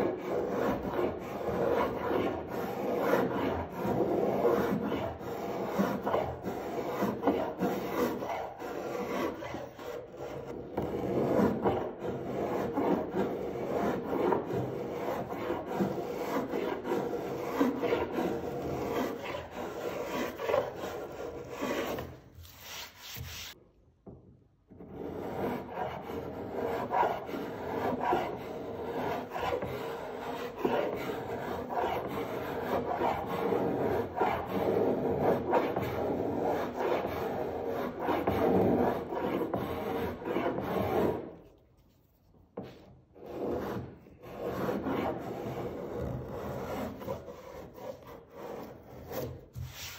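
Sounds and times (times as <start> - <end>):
spokeshave scraping wood: 0.0 - 23.6, 24.8 - 49.9.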